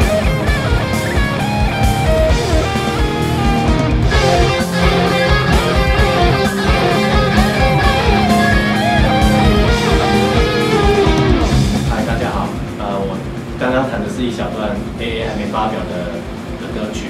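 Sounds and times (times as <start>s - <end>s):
distorted electric guitar riffing: 0.0s - 14.0s
rock drum beat with kick drum: 0.0s - 17.0s.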